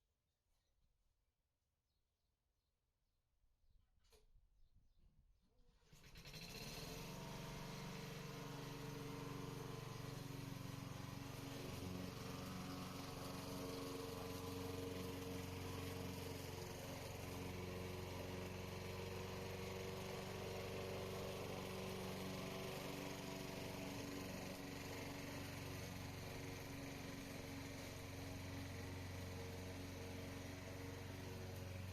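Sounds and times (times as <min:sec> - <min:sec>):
small engine running steadily: 0:05.9 - 0:31.9.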